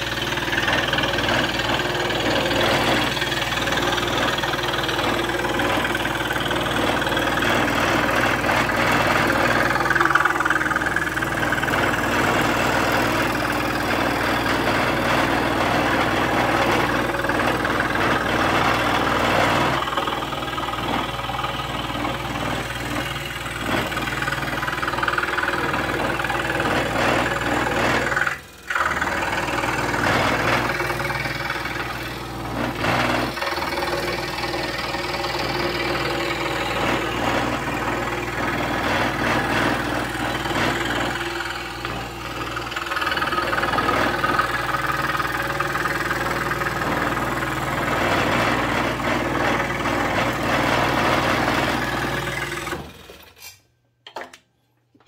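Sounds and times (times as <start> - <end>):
scroll saw cutting wood: 0.0 - 53.6.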